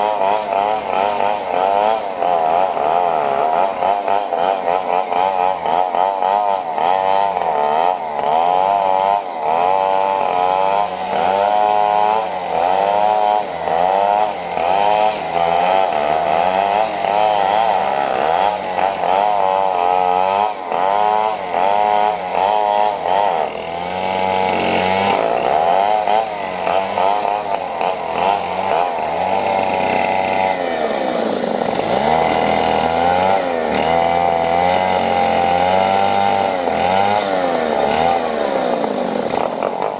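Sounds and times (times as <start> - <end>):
small engines revving: 0.0 - 39.9.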